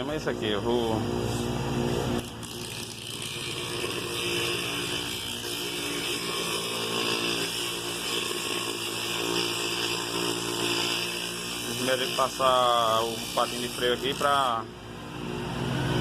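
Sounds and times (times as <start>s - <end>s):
bench grinder whining: 0.0s - 16.0s.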